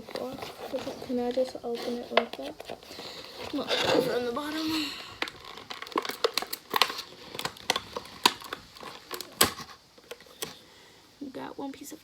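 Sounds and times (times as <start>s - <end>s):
tape peeling: 0.0s - 10.6s
plastic packaging crackling: 0.0s - 10.8s.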